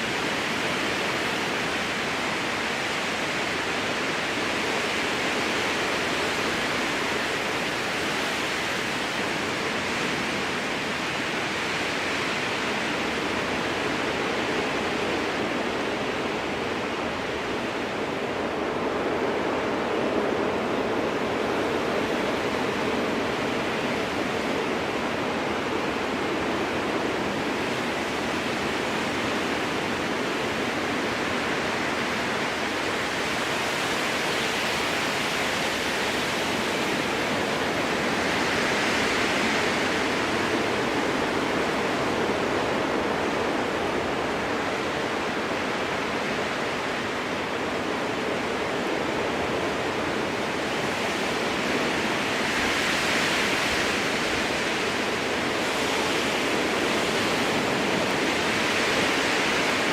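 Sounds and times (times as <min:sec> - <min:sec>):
strong wind through trees: 0:00.0 - 0:59.9.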